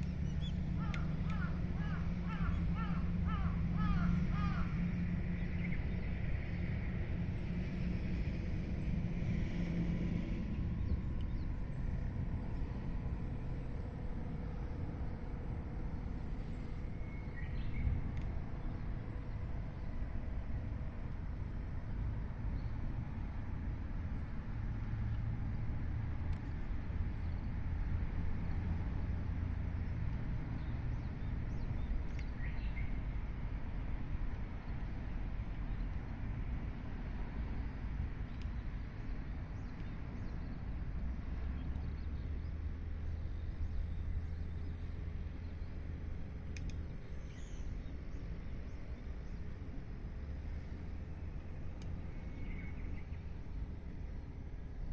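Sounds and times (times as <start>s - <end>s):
faint hum: 0.0s - 54.9s
low outdoor rumble: 0.0s - 54.9s.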